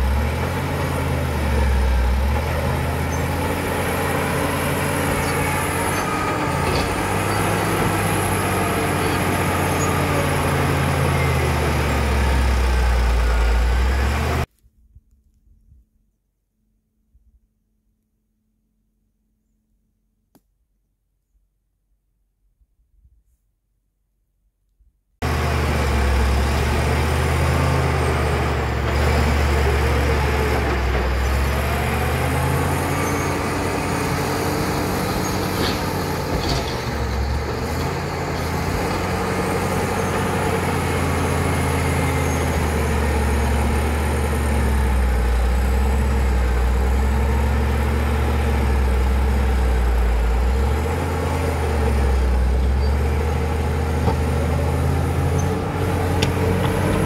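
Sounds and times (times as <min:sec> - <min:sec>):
bulldozer diesel engine under load: 0:00.0 - 0:14.5, 0:25.2 - 0:57.0.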